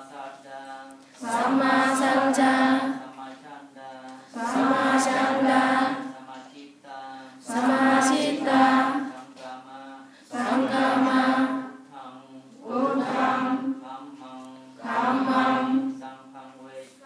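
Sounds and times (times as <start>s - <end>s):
group chanting in unison: 0.0s - 17.0s.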